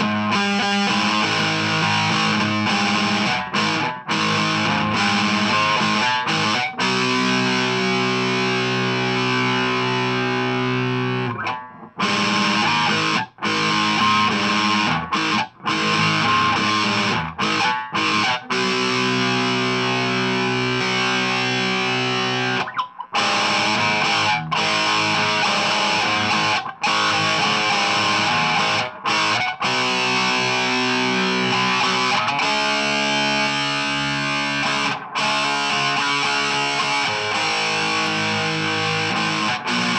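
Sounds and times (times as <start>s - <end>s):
distorted electric guitar chords: 0.0s - 39.9s.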